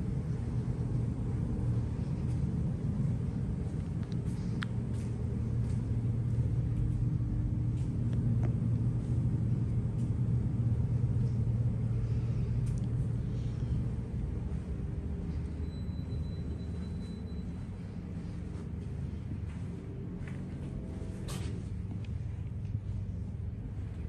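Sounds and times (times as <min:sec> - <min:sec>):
low rumble with hum: 0:00.0 - 0:24.0.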